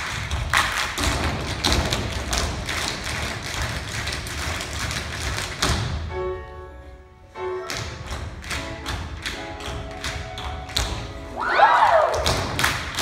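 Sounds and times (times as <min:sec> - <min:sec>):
tap shoes on stage floor: 0:00.0 - 0:06.1, 0:07.6 - 0:11.2, 0:12.0 - 0:13.0.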